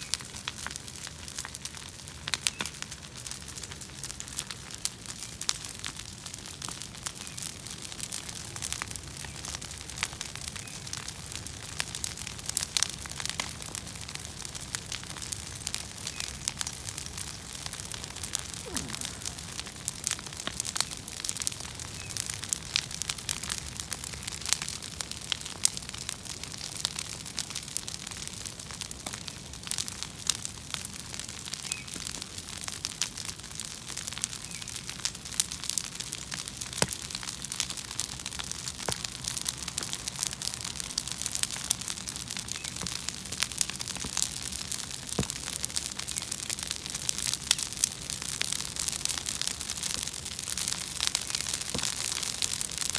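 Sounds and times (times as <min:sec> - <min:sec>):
bonfire crackling and popping: 0:00.0 - 0:52.9.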